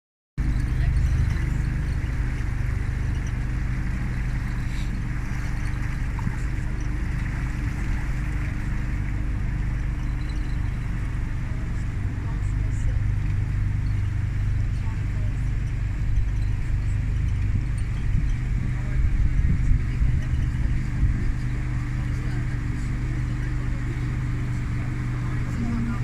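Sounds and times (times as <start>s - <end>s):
boat motor humming: 0.4s - 26.0s
water and wind hissing: 0.4s - 26.0s.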